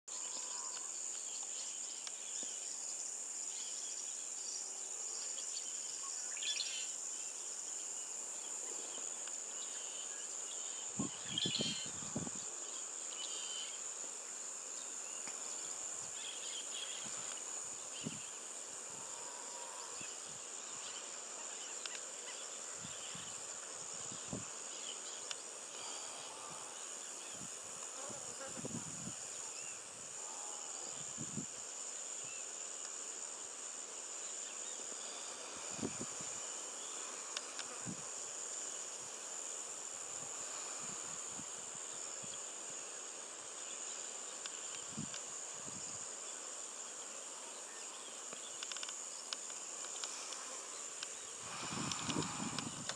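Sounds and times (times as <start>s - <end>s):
insects droning: 0.1s - 52.9s.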